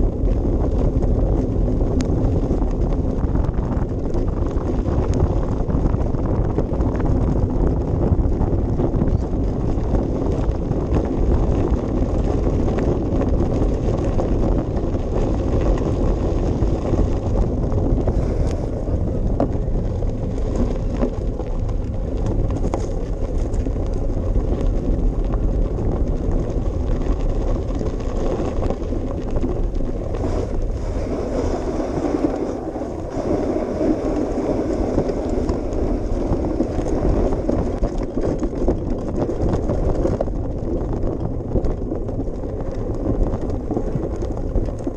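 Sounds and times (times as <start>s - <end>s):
bicycle rumbling along a path: 0.0s - 44.9s
small rattles and clicks: 0.0s - 44.9s
wind buffeting microphone: 0.0s - 44.9s.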